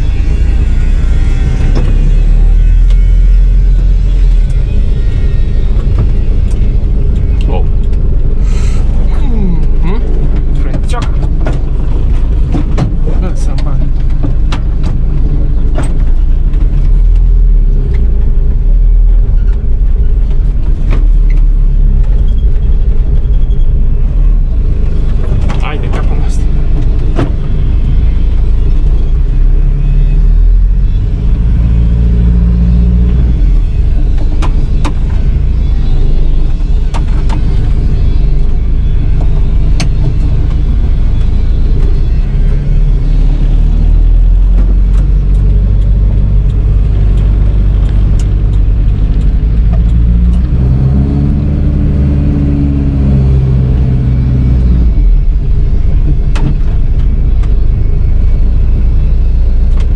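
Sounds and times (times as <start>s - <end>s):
road rumble: 0.0s - 59.9s
van engine accelerating: 0.0s - 59.9s.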